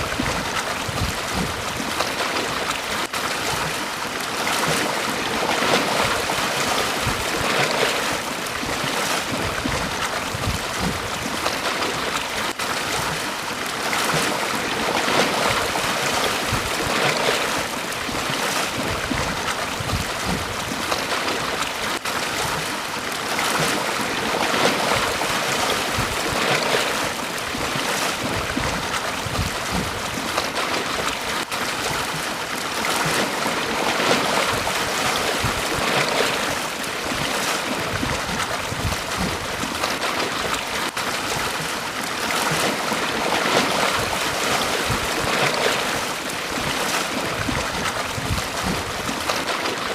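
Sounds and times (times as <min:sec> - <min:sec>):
waves washing onto beach: 0:00.0 - 0:49.9.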